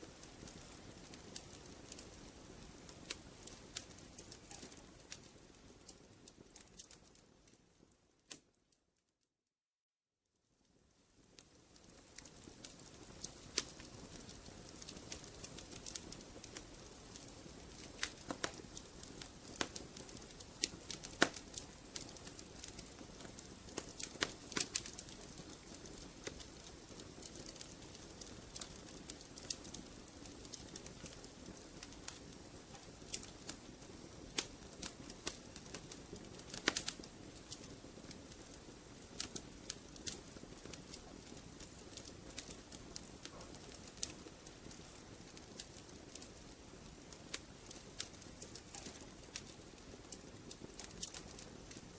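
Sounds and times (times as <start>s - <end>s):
fire crackling: 0.0s - 8.6s, 10.7s - 51.9s.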